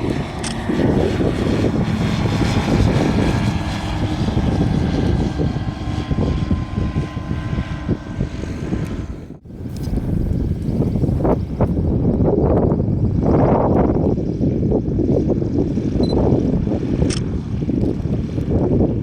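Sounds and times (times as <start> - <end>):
propeller aircraft engine running: 0.0 - 19.0.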